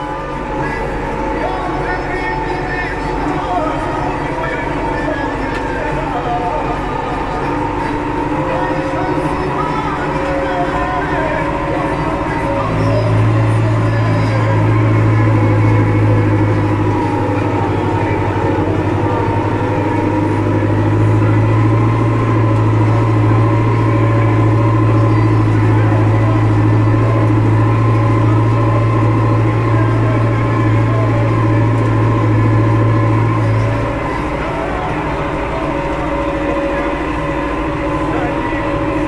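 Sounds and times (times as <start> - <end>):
tractor diesel engine drone: 0.0 - 39.0.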